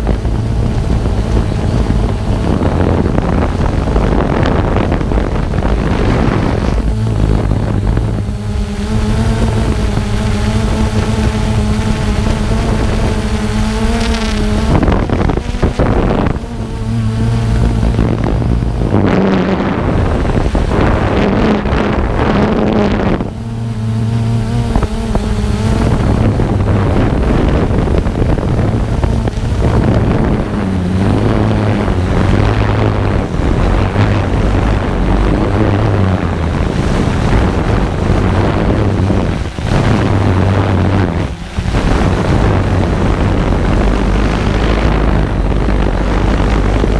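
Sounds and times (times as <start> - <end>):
drone propellers buzzing: 0.0 - 46.9
wind noise: 0.0 - 46.9.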